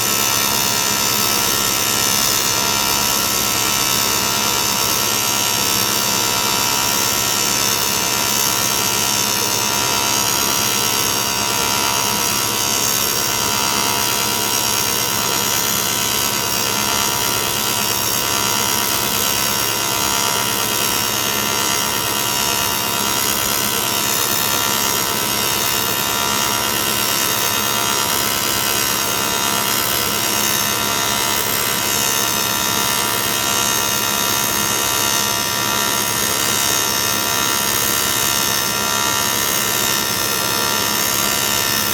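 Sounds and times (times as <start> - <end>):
welding arc buzzing: 0.0 - 41.9.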